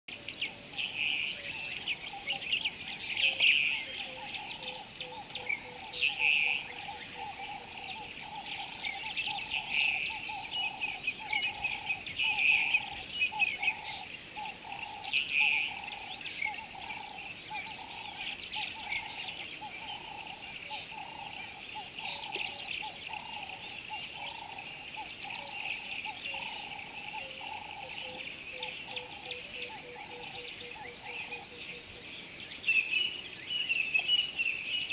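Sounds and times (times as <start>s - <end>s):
high-pitched insect drone: 0.1s - 34.9s
low rhythmic calling: 0.1s - 34.9s
birds chirping and singing: 0.2s - 34.9s.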